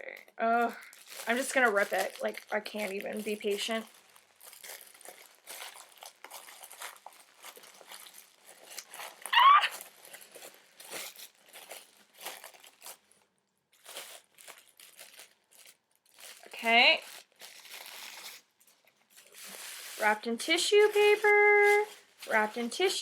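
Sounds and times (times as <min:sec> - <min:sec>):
wrapping paper crinkling and tearing: 0:00.0 - 0:23.0.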